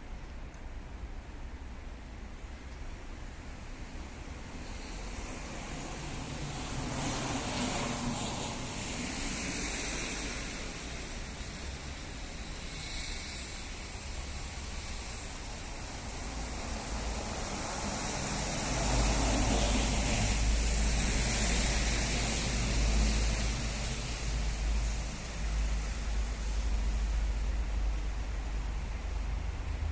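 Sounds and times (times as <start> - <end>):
rain hissing: 2.1 - 29.9.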